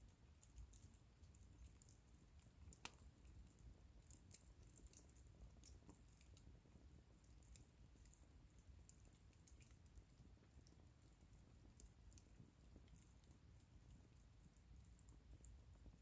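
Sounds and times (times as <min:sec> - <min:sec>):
bonfire crackling: 0:00.0 - 0:16.0.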